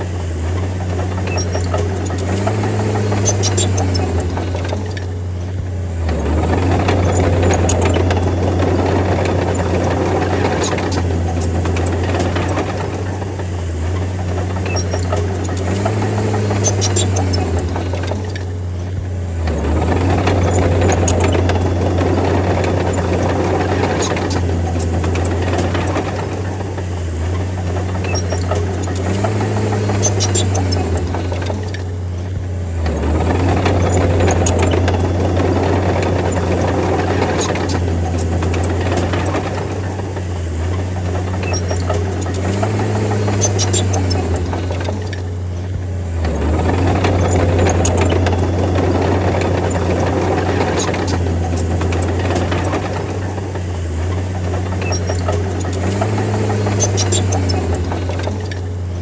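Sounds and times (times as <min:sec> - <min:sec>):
bulldozer diesel engine: 0:00.0 - 0:59.0
metallic clanks of tracks: 0:00.0 - 0:59.0.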